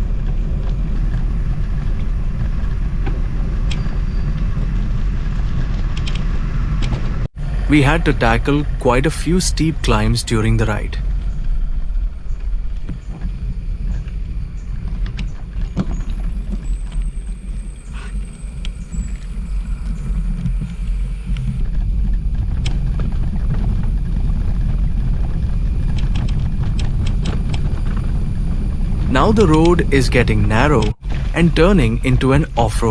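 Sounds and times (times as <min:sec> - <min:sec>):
low rumbling wind: 0:00.0 - 0:32.9.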